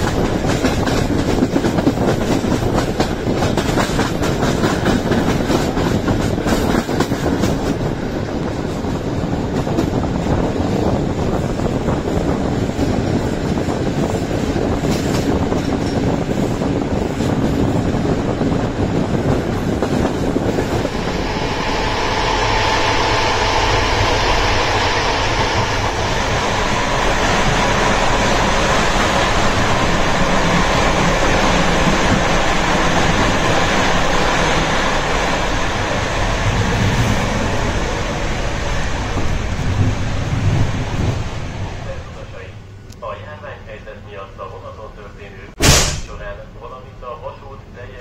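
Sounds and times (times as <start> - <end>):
rushing air: 0.0 - 42.8
train wheels rumbling on rail: 0.0 - 48.0.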